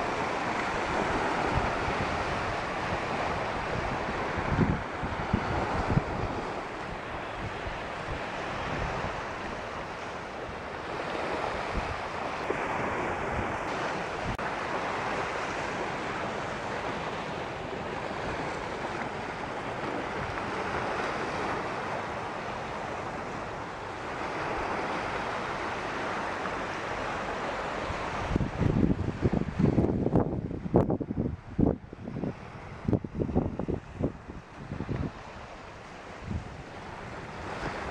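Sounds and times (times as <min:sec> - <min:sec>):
wind buffeting microphone: 0:00.0 - 0:22.1, 0:22.8 - 0:37.9
waves washing onto sand: 0:00.0 - 0:37.9.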